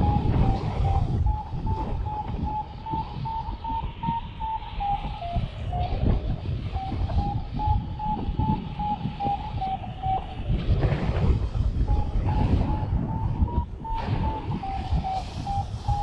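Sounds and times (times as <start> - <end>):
variometer short beeps: 0.0 - 5.9, 6.7 - 10.5, 11.9 - 16.0
wind rushing on microphone: 0.0 - 16.0.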